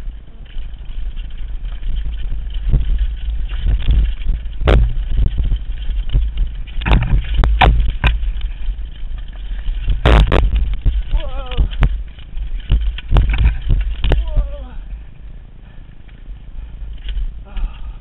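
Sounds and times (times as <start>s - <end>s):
bike wheels knocking on rocks: 0.0s - 15.1s
wind and vibration rumble: 0.0s - 18.0s.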